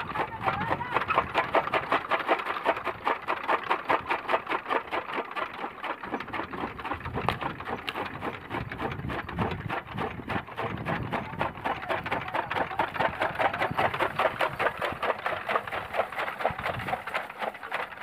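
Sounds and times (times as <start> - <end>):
chaff cutter gearing clatter: 0.0 - 18.0.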